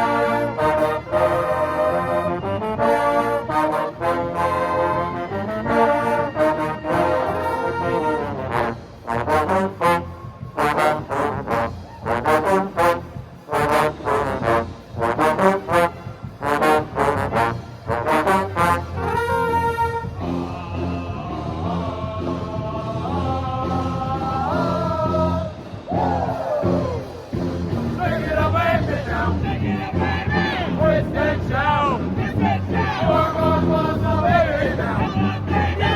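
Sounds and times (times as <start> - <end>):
trombone section playing: 0.0 - 35.9.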